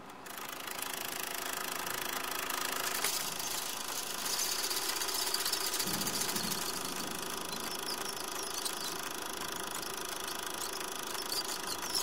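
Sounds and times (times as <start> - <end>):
small machine rattling: 0.0 - 12.0.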